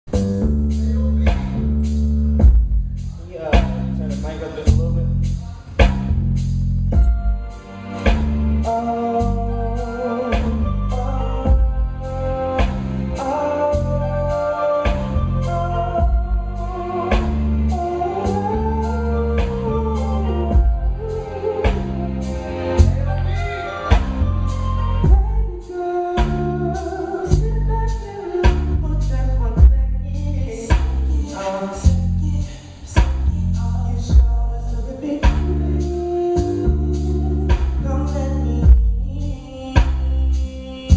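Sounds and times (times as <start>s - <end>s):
drums steady beat: 0.0s - 8.4s, 10.3s - 13.8s, 14.8s - 18.5s, 19.4s - 22.0s, 22.8s - 32.2s, 32.9s - 37.9s, 38.6s - 40.9s
heavy bass: 0.0s - 40.9s
person singing: 7.0s - 40.9s.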